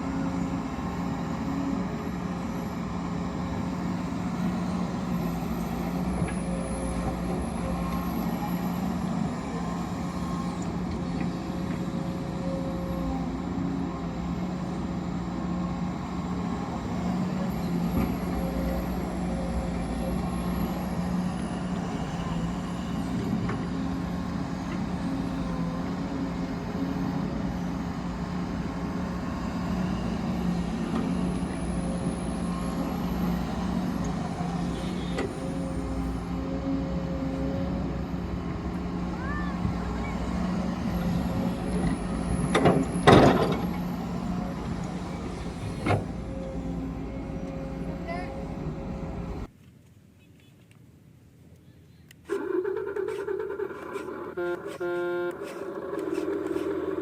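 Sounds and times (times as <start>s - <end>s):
heavy machinery engines humming: 0.0s - 49.5s, 52.1s - 57.0s.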